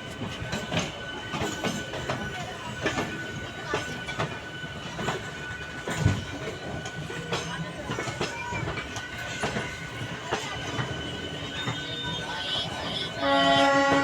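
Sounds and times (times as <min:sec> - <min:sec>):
train wheels clacking over rail joints: 0:00.0 - 0:14.0.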